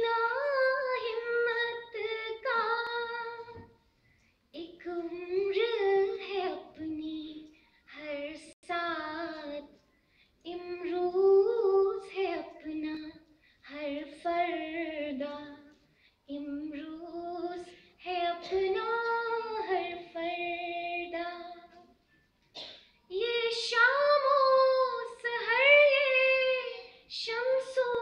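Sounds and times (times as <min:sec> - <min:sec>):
woman singing unaccompanied: 0:00.0 - 0:03.8, 0:04.6 - 0:09.8, 0:10.4 - 0:21.8, 0:23.1 - 0:28.0.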